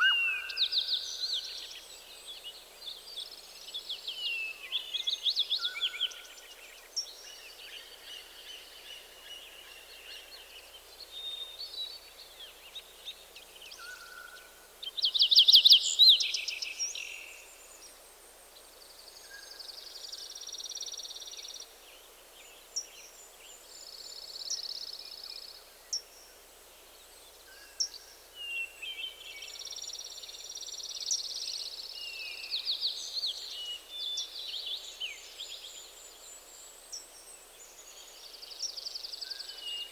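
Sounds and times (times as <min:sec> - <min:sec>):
faint forest ambience hiss: 0:00.0 - 0:39.9.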